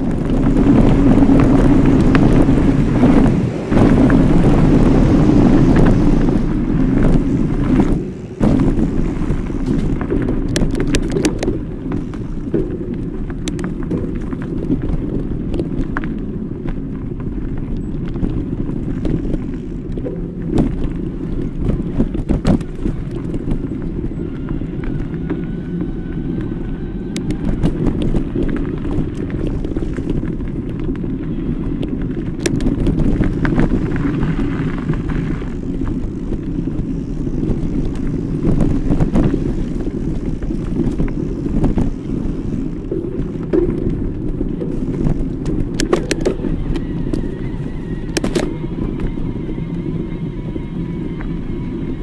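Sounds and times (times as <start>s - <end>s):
bike rattling over rough ground: 0.0s - 52.0s
bike tyre noise on dirt: 0.0s - 52.0s
wind rumble on microphone: 0.0s - 52.0s.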